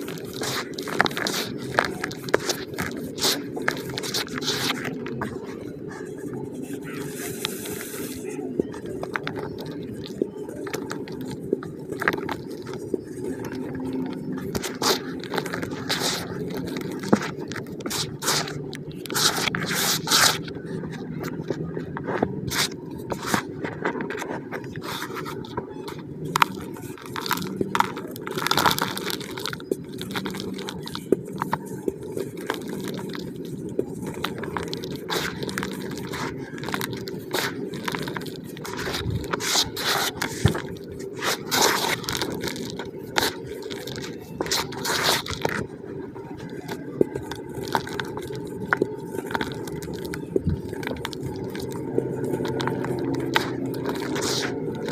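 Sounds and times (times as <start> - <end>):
hands crunching damp cement: 0.0 - 54.9
powder rustling: 0.0 - 54.9.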